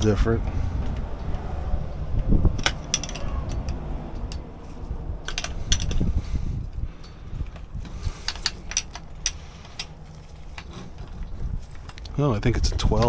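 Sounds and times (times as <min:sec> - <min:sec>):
low rumble of handling noise: 0:00.0 - 0:13.0
metal tools clinking: 0:02.5 - 0:13.0.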